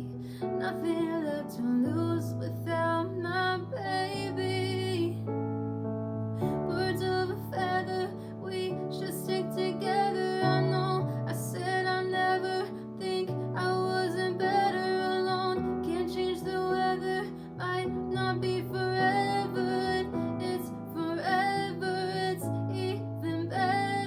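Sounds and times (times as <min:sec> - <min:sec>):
woman singing: 0:00.0 - 0:05.3, 0:06.4 - 0:24.0.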